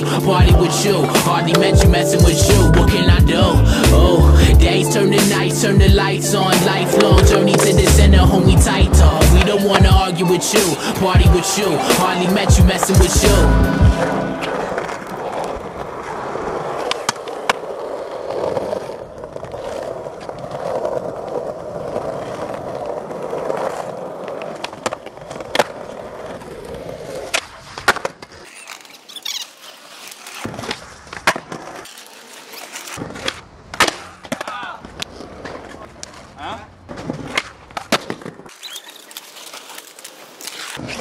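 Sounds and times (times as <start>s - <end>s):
skateboard clacking on ground: 0.0s - 3.2s, 4.8s - 13.4s, 14.3s - 41.0s
skateboard wheels rolling on concrete: 0.0s - 41.0s.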